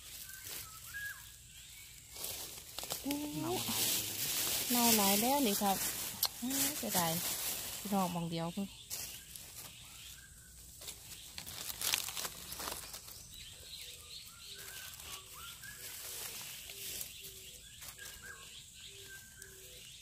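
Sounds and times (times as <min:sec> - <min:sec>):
rustle of leaves or handling: 0:00.0 - 0:20.0.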